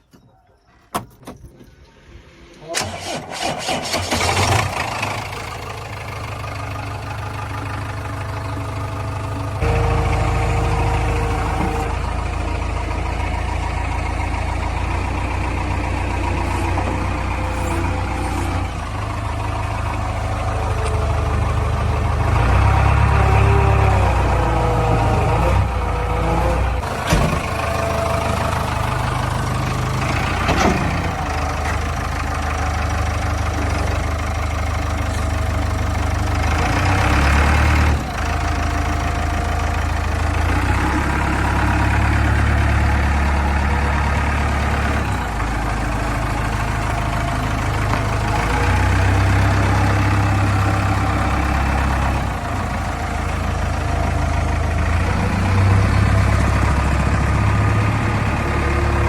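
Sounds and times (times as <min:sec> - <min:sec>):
backhoe diesel engine working: 0:00.0 - 0:59.0.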